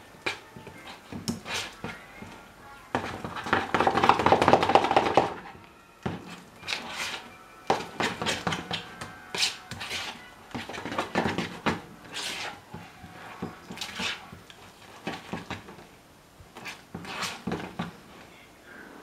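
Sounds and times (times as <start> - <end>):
fork scraping plastic bowl: 0.2 - 15.8, 16.6 - 18.0.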